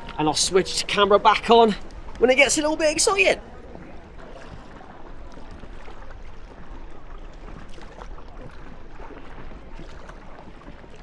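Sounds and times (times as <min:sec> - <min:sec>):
water splashing around canoe: 0:00.0 - 0:11.0.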